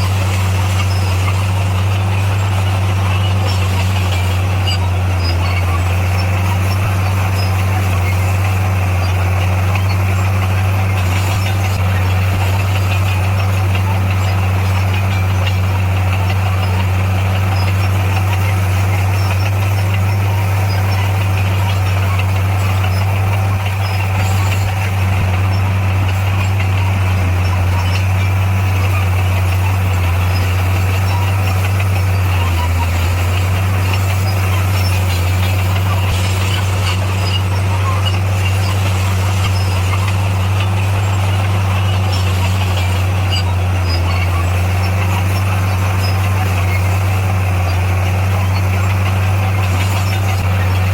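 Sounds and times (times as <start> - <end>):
heavy diesel engine drone: 0.0 - 50.9.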